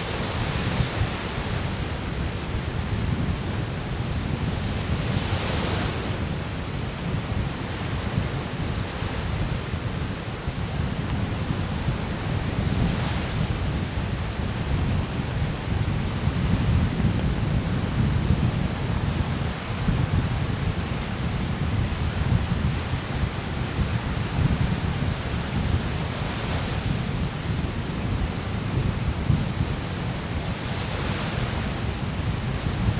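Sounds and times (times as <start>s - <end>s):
waves washing onto shore: 0.0s - 32.9s
wind buffeting microphone: 0.0s - 32.9s.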